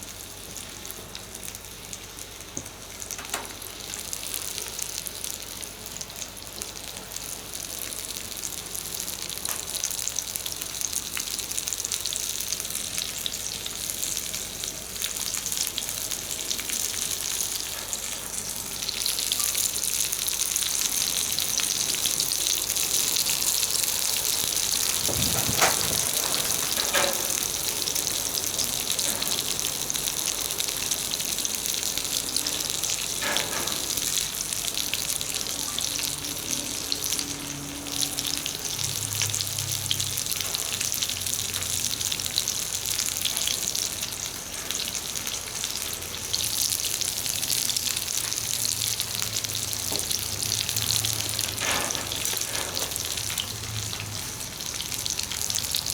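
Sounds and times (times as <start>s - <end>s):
mushrooms sizzling in oil: 0.0s - 55.9s.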